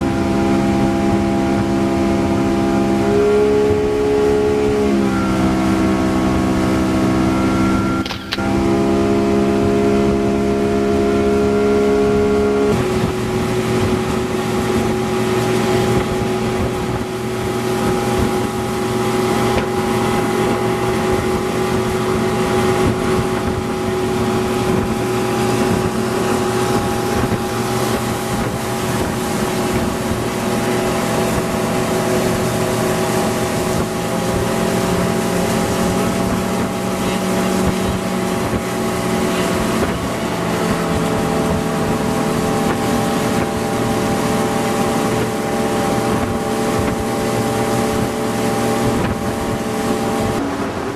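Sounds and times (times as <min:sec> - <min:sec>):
boat engine running: 0:00.0 - 0:50.9
water noise: 0:00.0 - 0:50.9
wind noise: 0:00.0 - 0:50.9.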